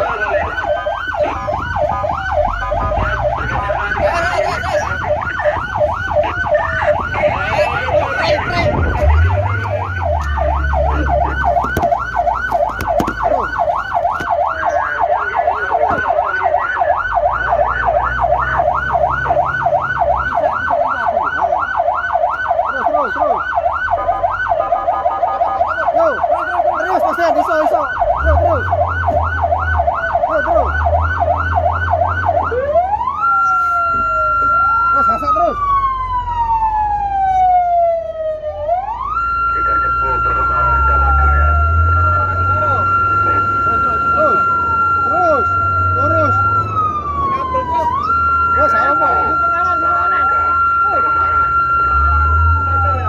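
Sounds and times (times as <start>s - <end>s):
fire truck siren: 0.0s - 53.0s
truck engine rumbling: 0.0s - 53.0s.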